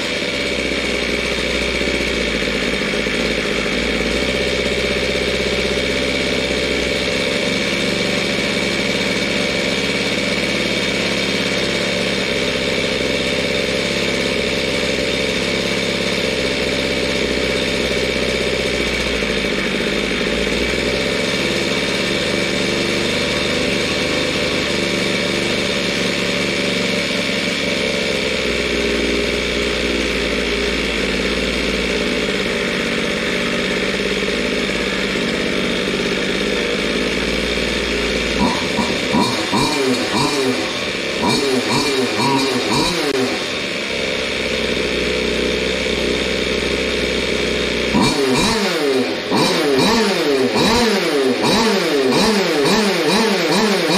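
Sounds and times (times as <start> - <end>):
two-stroke engine idling: 0.0 - 53.9.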